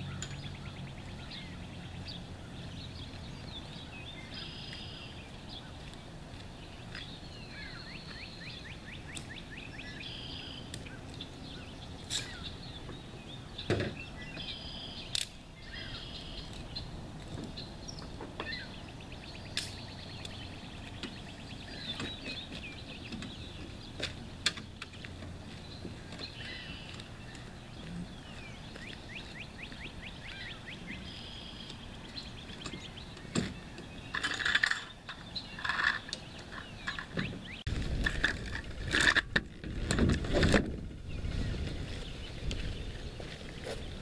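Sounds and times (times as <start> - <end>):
small birds chirping and trilling: 0.0 - 37.8, 40.9 - 44.0
outdoor background noise: 0.0 - 44.0.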